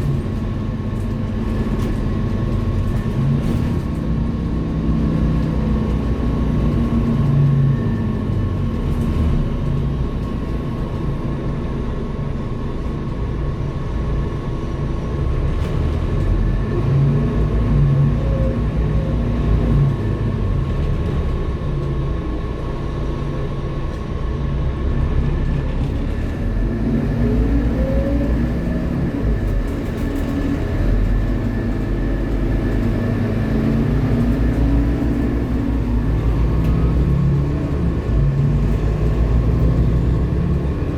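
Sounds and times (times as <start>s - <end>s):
bus diesel engine rumbling: 0.0s - 40.9s.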